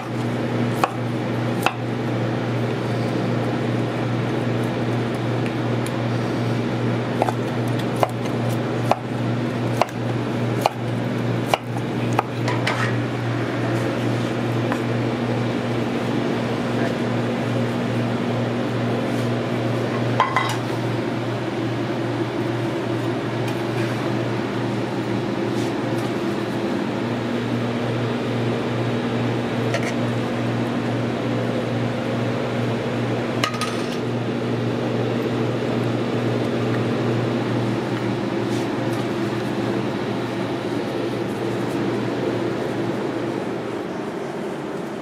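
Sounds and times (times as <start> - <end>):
kitchen equipment hum: 0.0 - 45.0.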